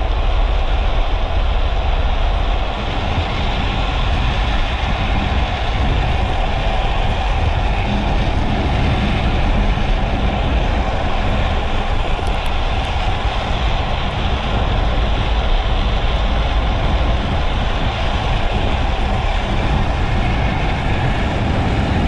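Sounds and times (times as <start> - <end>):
wheels rumbling on asphalt: 0.0 - 22.0
wind noise on microphone: 0.0 - 22.0.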